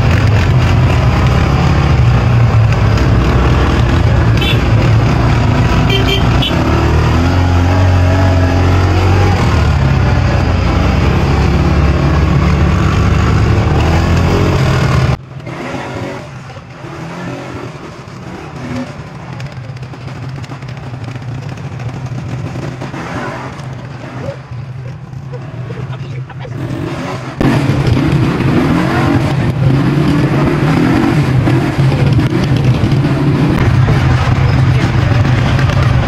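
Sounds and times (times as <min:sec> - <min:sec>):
outdoor noise: 0:00.0 - 0:36.0
small vehicle engine running: 0:00.0 - 0:36.0.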